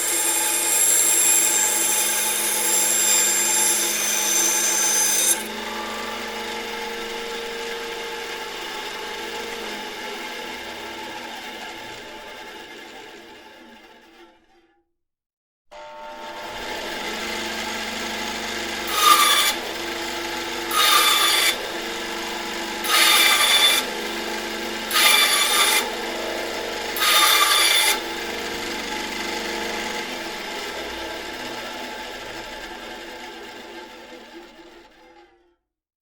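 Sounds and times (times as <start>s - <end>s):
band saw motor hum: 0.0s - 13.2s, 15.7s - 34.5s
saw cutting wood: 0.0s - 13.2s, 15.7s - 34.9s.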